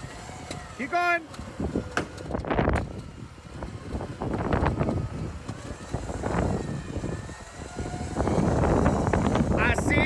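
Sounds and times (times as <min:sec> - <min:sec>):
electric winch running under load: 0:00.0 - 0:10.0.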